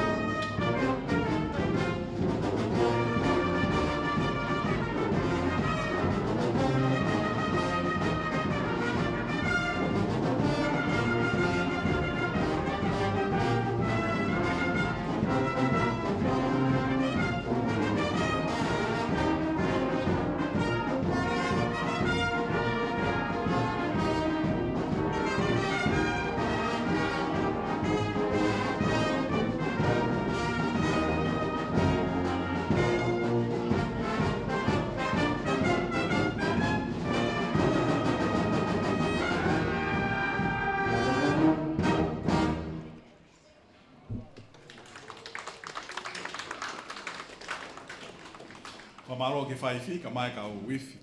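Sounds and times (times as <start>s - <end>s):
brass band playing: 0.0s - 43.1s.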